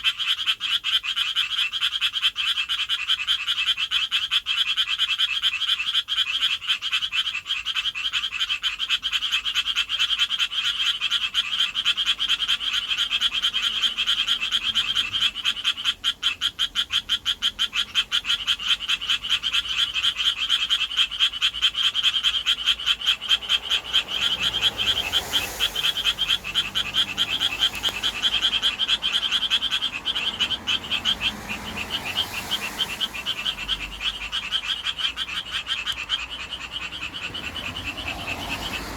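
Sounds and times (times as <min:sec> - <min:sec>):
tree frogs calling: 0:00.0 - 0:38.9.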